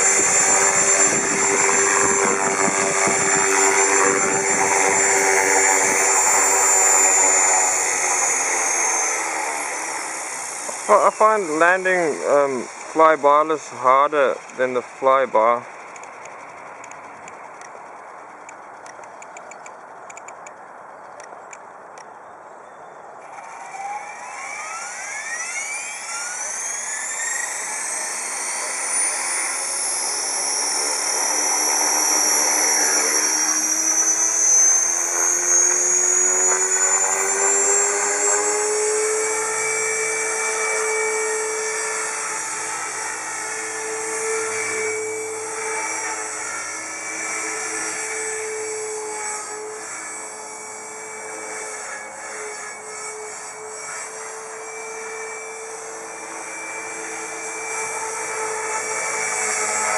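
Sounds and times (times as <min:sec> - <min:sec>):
rc helicopter rotor whine: 0:00.0 - 0:59.9.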